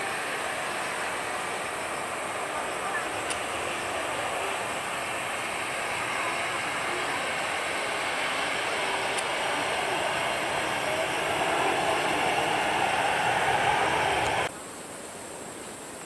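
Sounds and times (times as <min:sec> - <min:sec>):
jet engine rushing noise: 0:00.0 - 0:14.5.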